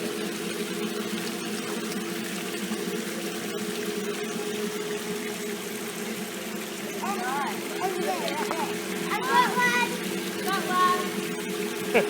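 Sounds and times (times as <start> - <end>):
mechanical hum: 0.0 - 12.0
water running: 0.0 - 12.0.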